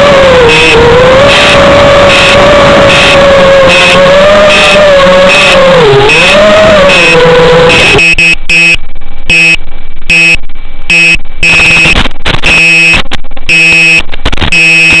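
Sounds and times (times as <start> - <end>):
electronic buzzer beeps: 0.0 - 15.0.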